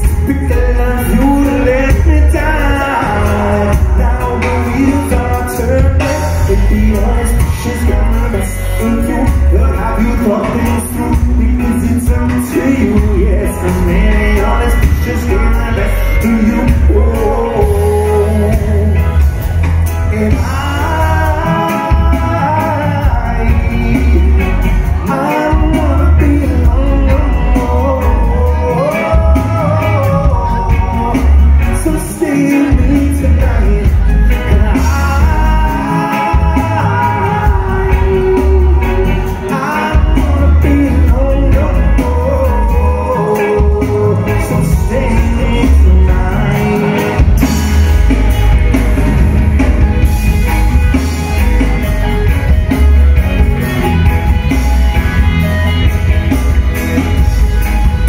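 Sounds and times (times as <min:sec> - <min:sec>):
lead vocal singing: 0:00.0 - 0:51.9
bass guitar: 0:00.0 - 0:58.0
drums: 0:00.0 - 0:58.0
electric guitars: 0:00.0 - 0:58.0.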